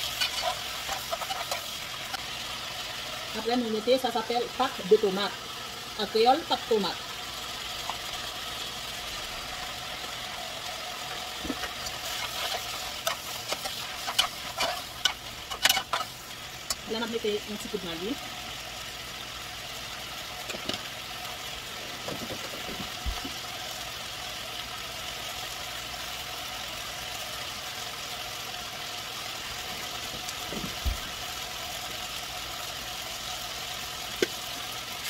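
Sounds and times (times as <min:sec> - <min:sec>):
vegetables sizzling in pot: 0:00.0 - 0:35.0.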